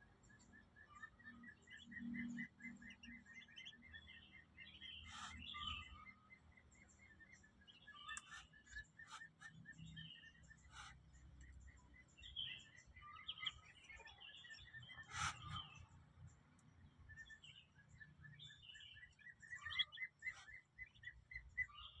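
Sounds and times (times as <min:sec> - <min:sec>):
ducklings peeping: 0:00.2 - 0:22.0.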